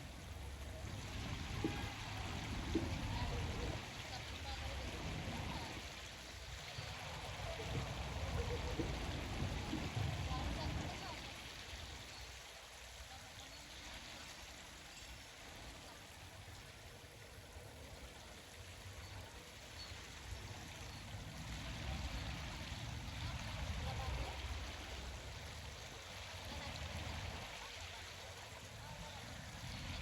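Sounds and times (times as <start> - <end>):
running water hiss: 0.0 - 30.0.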